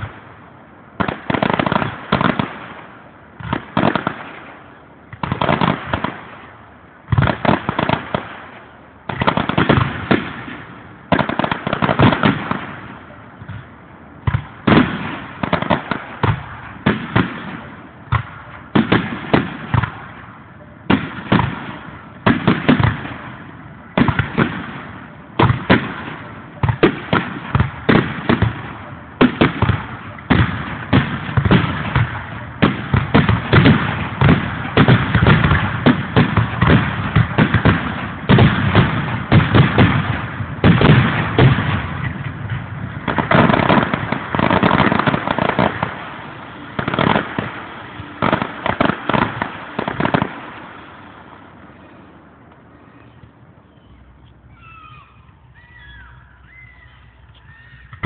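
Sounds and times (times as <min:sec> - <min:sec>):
fireworks bursting with loud bangs: 0:00.0 - 0:58.0.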